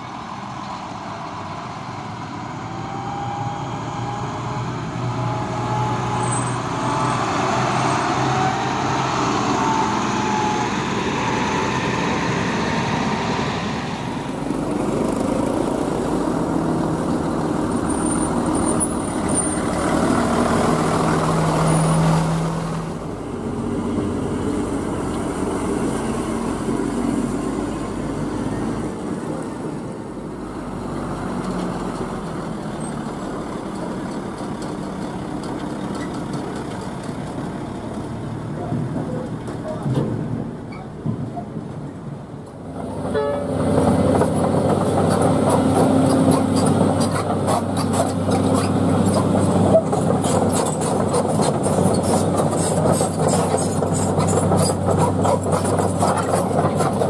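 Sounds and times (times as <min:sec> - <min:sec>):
diesel machinery engine running: 0:00.0 - 0:41.1, 0:42.1 - 0:57.0.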